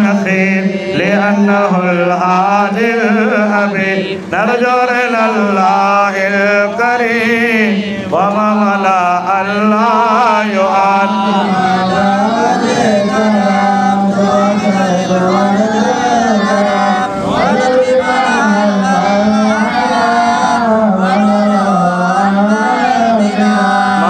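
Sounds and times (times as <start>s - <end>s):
men chanting through microphones: 0.0s - 24.0s.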